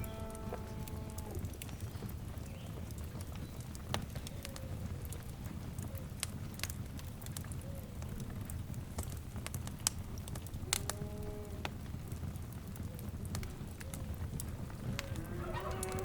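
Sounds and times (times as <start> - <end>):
wood fire crackling: 0.0 - 16.0
sharp snaps of fire: 0.2 - 16.0.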